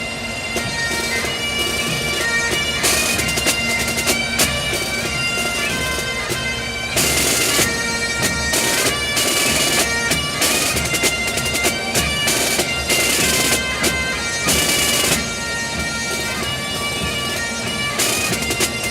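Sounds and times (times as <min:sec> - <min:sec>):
bagpipes playing: 0:00.0 - 0:18.9
drums beating: 0:00.4 - 0:18.9.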